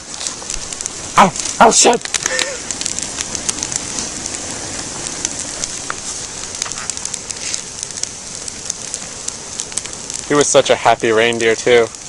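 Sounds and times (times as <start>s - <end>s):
fire popping: 0.0s - 12.0s
wood fire crackling: 0.0s - 12.0s.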